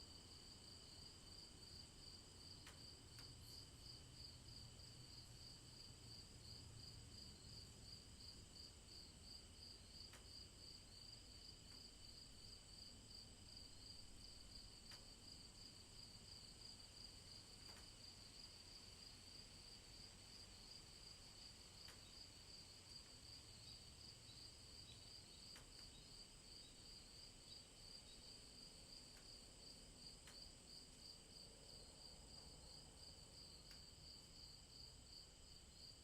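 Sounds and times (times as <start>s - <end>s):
crickets chirping: 0.1s - 36.0s.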